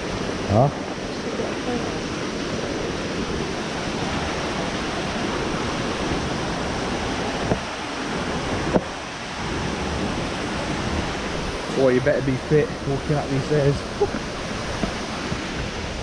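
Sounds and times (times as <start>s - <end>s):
rushing falling water: 0.0s - 16.0s.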